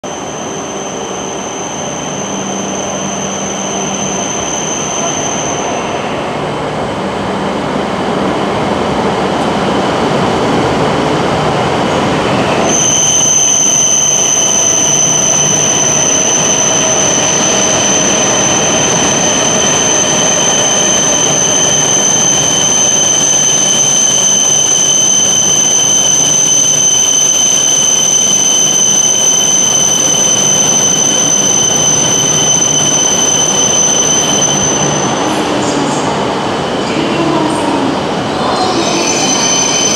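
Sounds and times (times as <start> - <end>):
steady high-pitched whine: 0.0 - 39.9
train rolling noise: 0.0 - 39.9.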